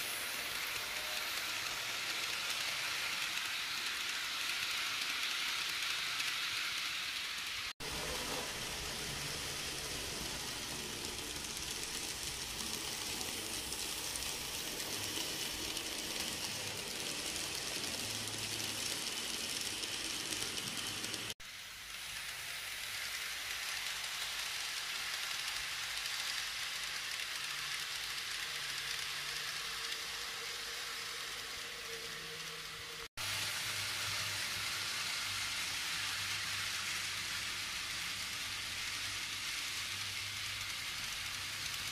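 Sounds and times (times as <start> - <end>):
model train wheels rattling on rails: 0.0 - 41.9.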